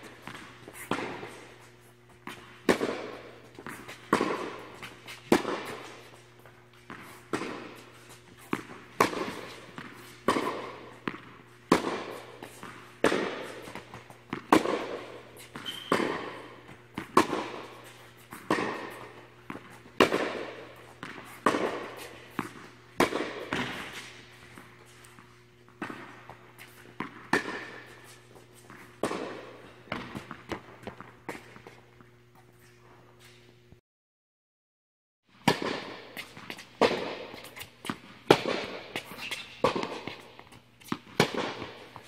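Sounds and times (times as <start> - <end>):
tennis ball struck by racket: 0.0 - 24.7, 25.7 - 31.5, 35.4 - 42.0
tennis ball bouncing: 0.0 - 32.5, 35.4 - 42.0.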